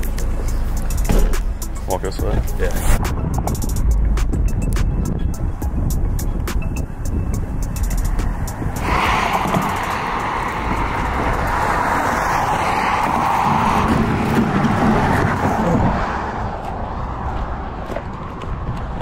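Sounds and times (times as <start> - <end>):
cars passing on highway: 0.0 - 19.0.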